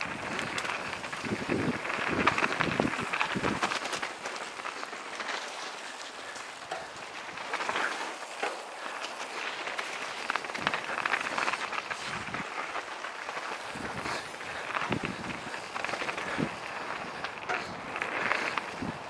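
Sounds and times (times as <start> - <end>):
bike tyres rolling on dirt trail: 0.0 - 19.0.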